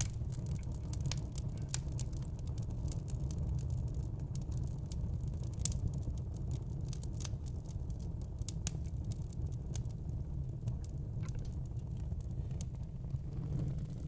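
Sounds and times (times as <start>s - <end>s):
burning logs crackling: 0.0s - 14.0s
low rumble of flames: 0.0s - 14.0s.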